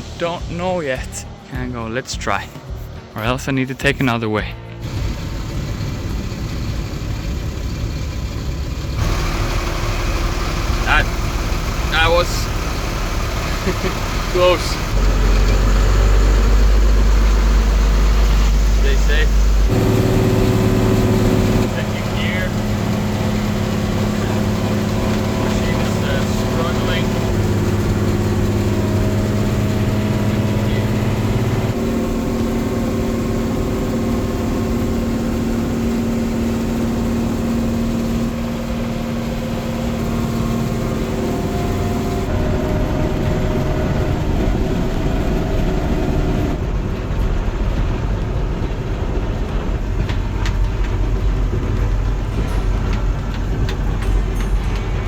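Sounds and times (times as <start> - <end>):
heavy machine engine straining: 4.7 - 55.0.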